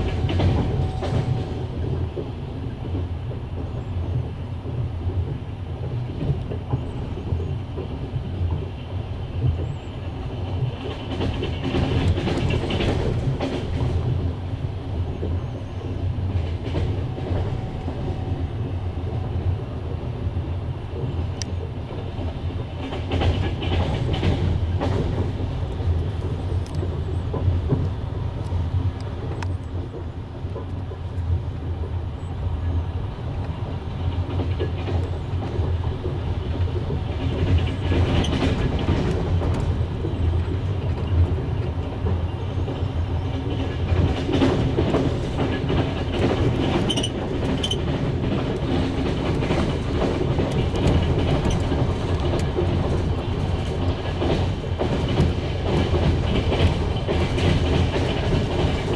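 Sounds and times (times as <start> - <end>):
wheels clattering over rail joints: 0.0 - 8.7, 10.5 - 15.6, 16.2 - 32.3, 33.4 - 58.9
train rumbling on rails: 0.0 - 58.9.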